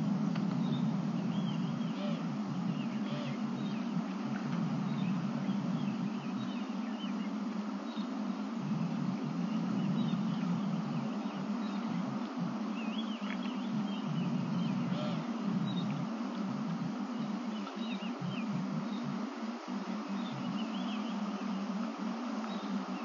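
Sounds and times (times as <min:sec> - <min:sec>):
steady low rumble: 0:00.0 - 0:23.0
birds chirping: 0:00.4 - 0:23.0.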